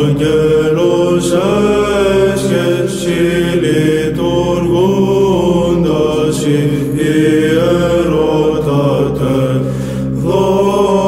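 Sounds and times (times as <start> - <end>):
held vocal drone: 0.0 - 11.0
melismatic chanting voice: 0.0 - 11.0.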